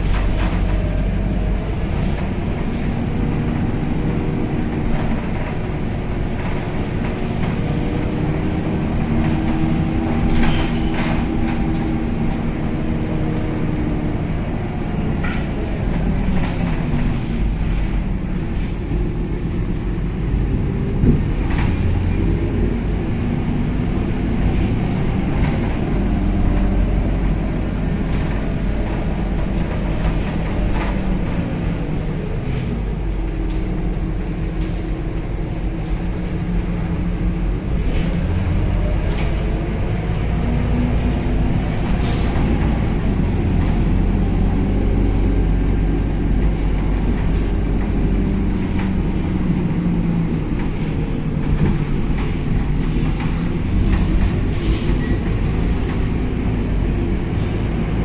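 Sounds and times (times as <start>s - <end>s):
bus diesel engine: 0.0s - 58.0s
heavy road rumble: 0.0s - 58.0s.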